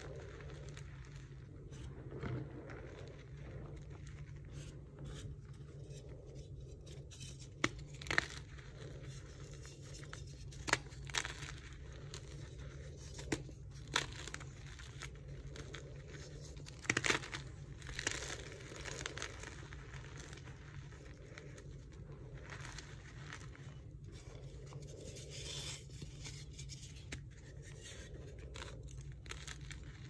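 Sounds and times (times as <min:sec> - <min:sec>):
chalk crunching and crumbling: 0:00.0 - 0:30.0.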